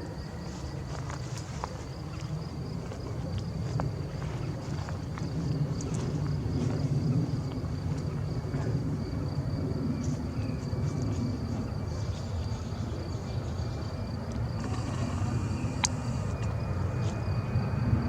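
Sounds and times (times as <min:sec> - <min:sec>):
distant aircraft engines rumbling: 0:00.0 - 0:18.0.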